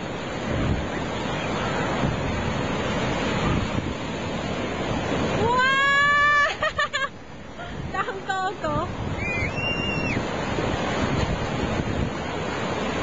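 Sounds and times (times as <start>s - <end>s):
ocean surf washing up beach: 0.0s - 13.0s
wind buffeting microphone: 0.0s - 13.0s.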